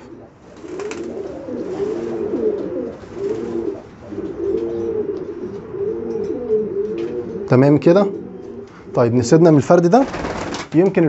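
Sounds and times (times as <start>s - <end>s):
pigeons cooing: 0.0s - 10.6s.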